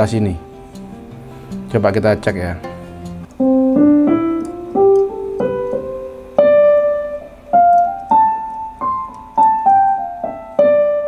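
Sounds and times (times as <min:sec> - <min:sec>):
piano notes on keyboard: 0:00.0 - 0:11.0.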